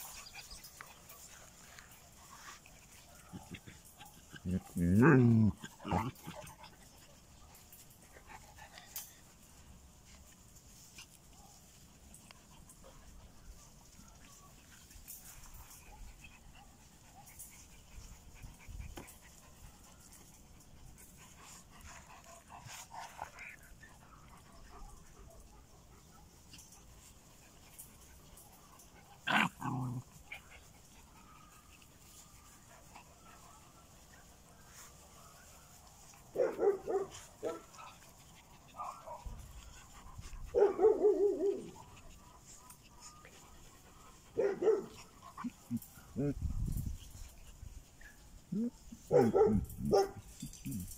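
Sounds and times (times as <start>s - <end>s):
dogs panting: 0.0s - 13.7s, 14.7s - 50.9s.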